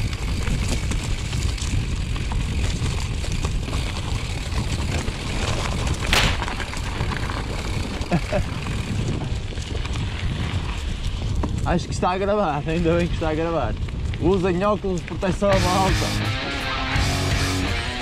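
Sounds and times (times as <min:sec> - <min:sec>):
bike clicks and rattles: 0:00.0 - 0:15.9
wind buffeting microphone: 0:00.0 - 0:16.0
bike tyres crunching on dirt: 0:00.0 - 0:18.0.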